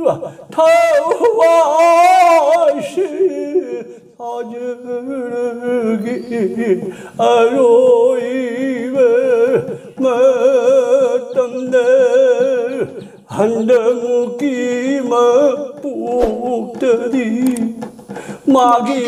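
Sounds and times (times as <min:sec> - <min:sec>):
elderly man chanting: 0:00.0 - 0:19.0.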